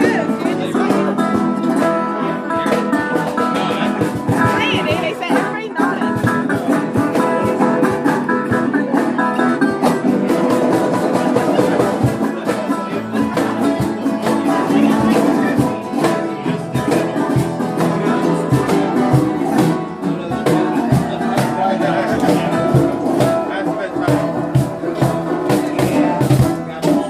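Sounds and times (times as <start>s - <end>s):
strummed acoustic string instruments: 0.0s - 27.0s.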